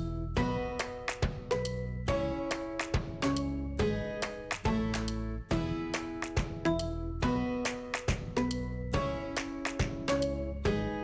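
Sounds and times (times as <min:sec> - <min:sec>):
plucked guitar notes: 0:00.0 - 0:11.0.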